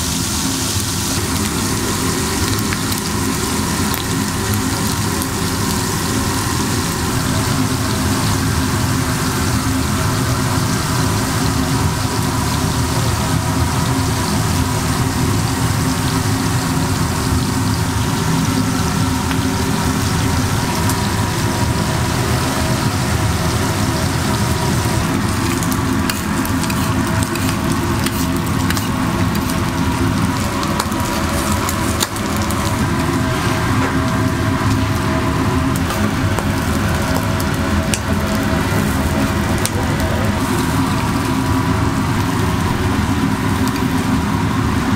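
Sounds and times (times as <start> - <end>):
meat sizzling on a griddle: 0.0 - 44.9.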